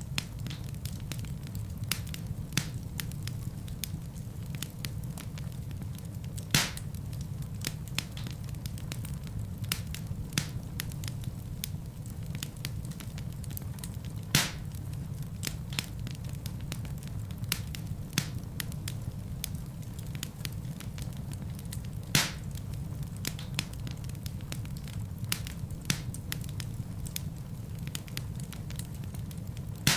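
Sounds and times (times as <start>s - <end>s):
burning logs crackling: 0.0s - 29.9s
fire popping: 0.0s - 29.9s
low rumble of flames: 0.0s - 29.9s.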